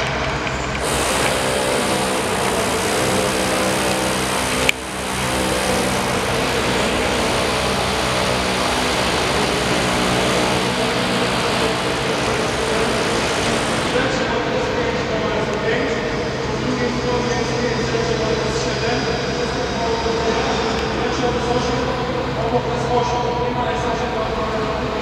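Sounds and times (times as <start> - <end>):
steady machine noise: 0.0 - 25.0.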